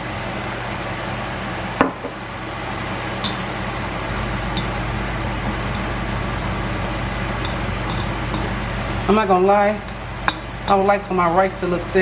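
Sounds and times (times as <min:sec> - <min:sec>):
rice sizzling in a wok: 0:00.0 - 0:12.0.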